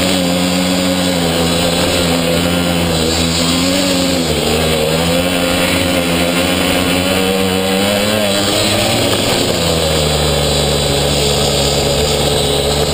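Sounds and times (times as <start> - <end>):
small two-stroke engine running: 0.0 - 12.9.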